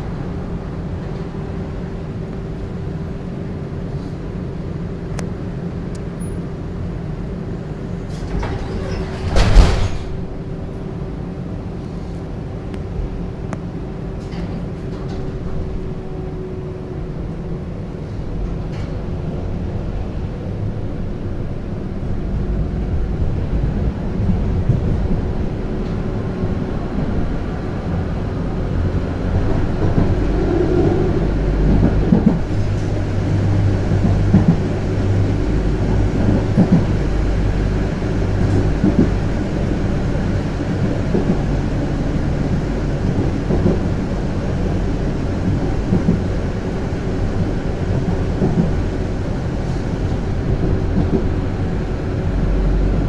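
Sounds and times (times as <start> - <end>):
tram wheels rumbling: 0.0 - 53.0.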